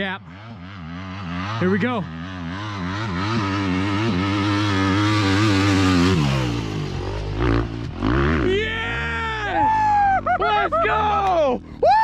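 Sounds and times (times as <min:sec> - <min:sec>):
dirt bike engine at full throttle: 0:00.0 - 0:12.0.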